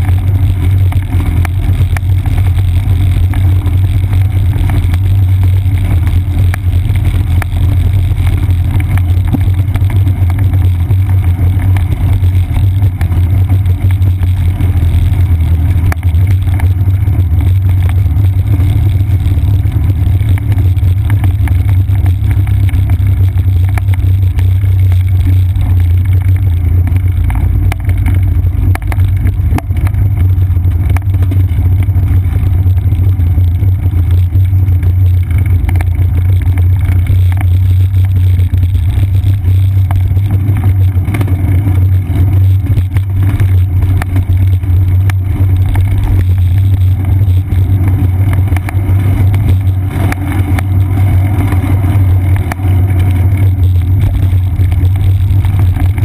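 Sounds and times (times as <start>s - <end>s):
bicycle wind and vibration rumble: 0.0s - 56.0s
faint rapid ticks: 0.0s - 56.0s.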